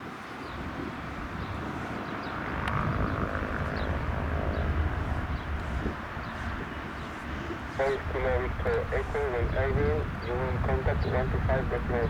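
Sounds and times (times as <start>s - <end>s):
aircraft piston engine rumbling: 0.4s - 12.0s.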